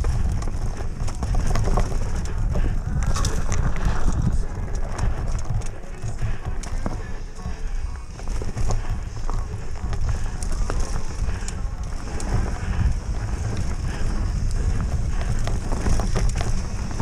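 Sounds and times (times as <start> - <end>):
bike clicking and rattling: 0.0 - 17.0
bike tyres rumbling on dirt: 0.0 - 17.0.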